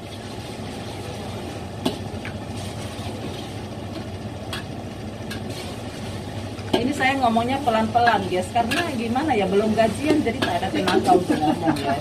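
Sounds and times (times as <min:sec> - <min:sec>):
exhaust fans humming: 0:00.0 - 0:12.0.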